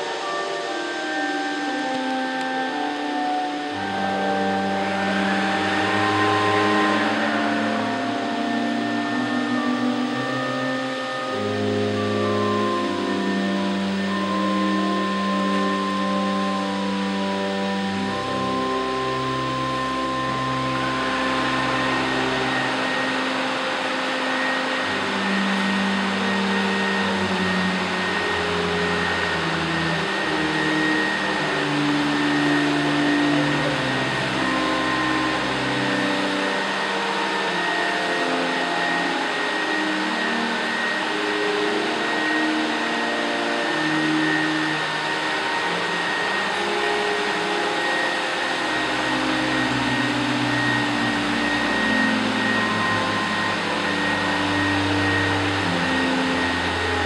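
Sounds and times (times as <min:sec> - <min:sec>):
pipe organ playing chords: 0:00.0 - 0:57.0
vacuum cleaner running: 0:00.0 - 0:57.0.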